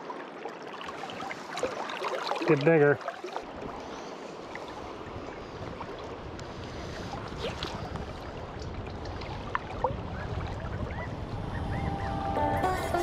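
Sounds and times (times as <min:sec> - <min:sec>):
creek water rushing: 0:00.0 - 0:11.3.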